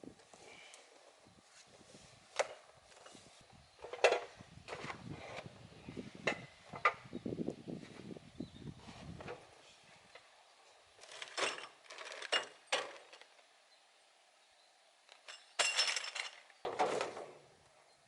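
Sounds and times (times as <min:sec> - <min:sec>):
rustling and scraping: 0:00.1 - 0:07.0, 0:07.8 - 0:13.4, 0:15.1 - 0:17.5.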